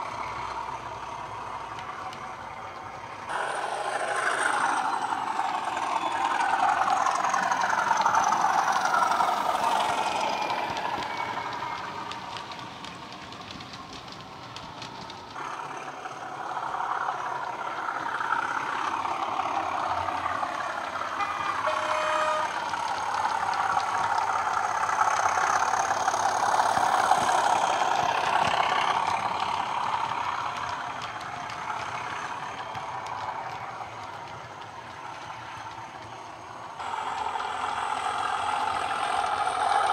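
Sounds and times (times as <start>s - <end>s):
model train diesel engine sound: 0.0s - 39.9s.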